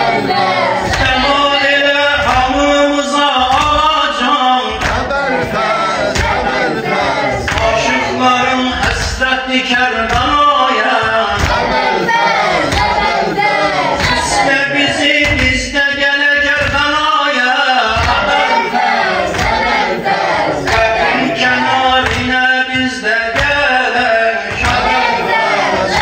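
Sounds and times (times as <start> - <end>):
man singing a lament: 0.0 - 12.2, 14.1 - 18.8, 20.5 - 26.0
men chanting: 0.0 - 26.0
regular thudding beat: 0.0 - 26.0.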